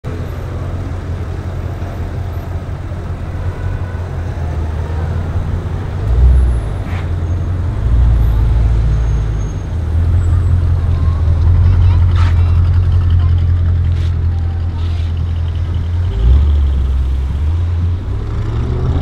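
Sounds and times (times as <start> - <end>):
car engine deep rumble: 0.0 - 19.0.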